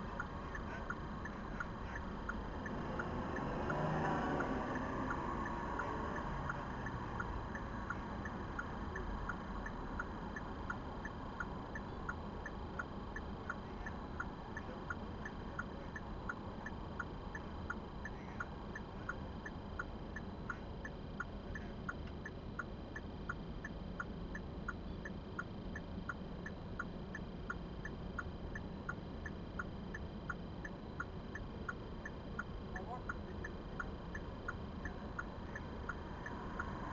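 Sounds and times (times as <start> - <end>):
car cabin hum: 0.0 - 36.9
turn signal clicking: 0.0 - 36.9.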